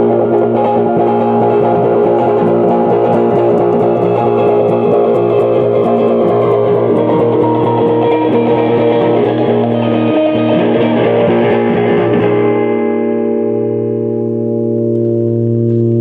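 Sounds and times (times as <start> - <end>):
electric guitar strumming: 0.0 - 16.0.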